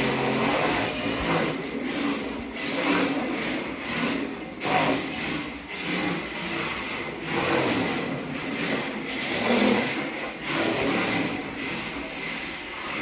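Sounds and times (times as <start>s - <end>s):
rc car motor whirring: 0.0s - 13.0s.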